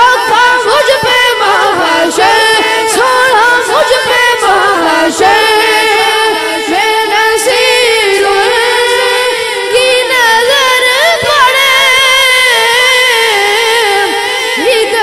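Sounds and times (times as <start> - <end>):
high voice singing unaccompanied: 0.0 - 15.0.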